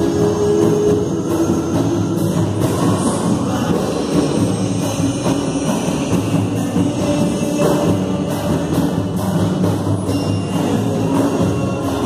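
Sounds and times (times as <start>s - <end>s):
acoustic guitar: 0.0s - 12.0s
frame drum: 0.0s - 12.0s
hand percussion: 0.0s - 12.0s
large hand drum: 0.0s - 12.0s
people singing into microphones: 0.0s - 12.0s.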